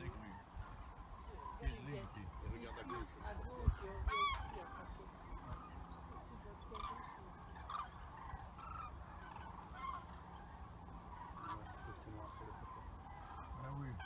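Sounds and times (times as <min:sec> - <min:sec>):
cranes calling: 0:00.0 - 0:14.0.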